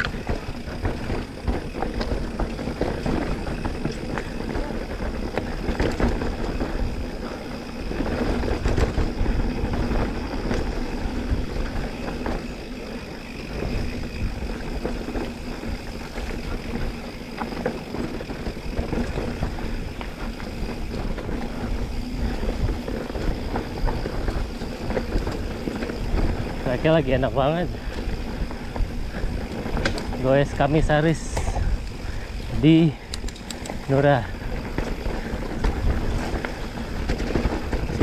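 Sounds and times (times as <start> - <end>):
bike rattling: 0.0 - 38.0
wind and tyre rumble: 0.0 - 38.0.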